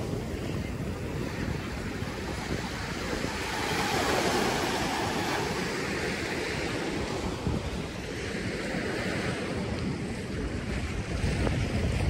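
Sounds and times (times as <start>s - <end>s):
waves washing onto beach: 0.0s - 12.0s
wind rumbling on microphone: 0.0s - 12.0s.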